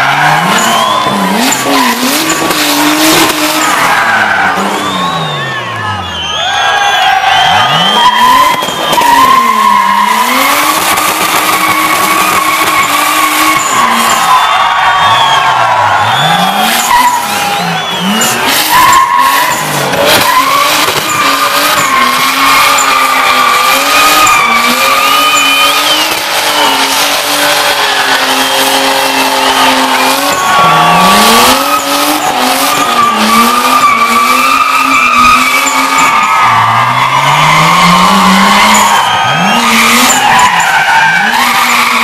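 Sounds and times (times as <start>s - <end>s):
car engine revving: 0.0s - 42.0s
tyres squealing: 0.0s - 42.0s.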